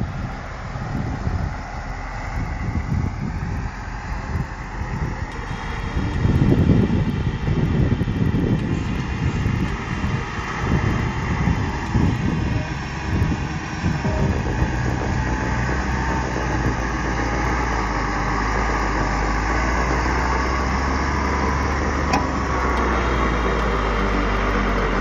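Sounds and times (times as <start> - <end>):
truck diesel engine under load: 0.0 - 25.0.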